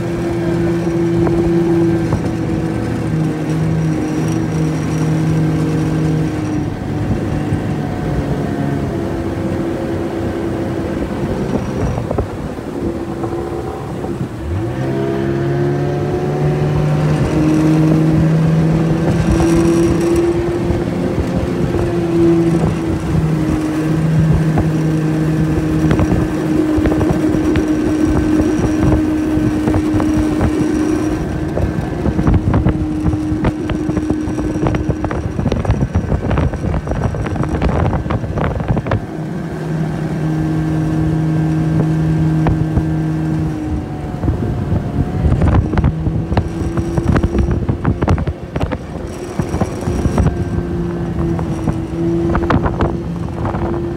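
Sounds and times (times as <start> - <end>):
outboard motor running: 0.0 - 53.9
wind buffeting microphone: 0.0 - 53.9.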